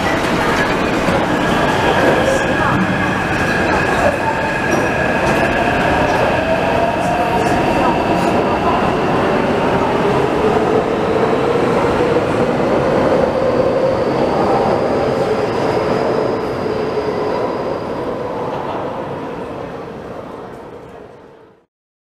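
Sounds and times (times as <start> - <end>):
train wheels rumbling on rails: 0.0 - 19.1.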